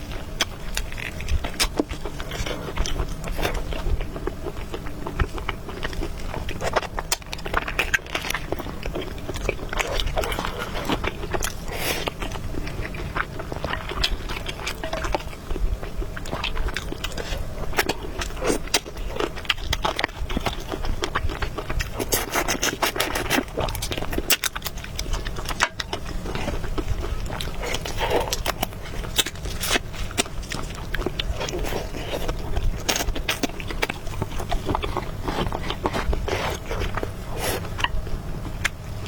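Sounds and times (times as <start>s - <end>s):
person chewing with clicks and smacks: 0.0s - 39.0s.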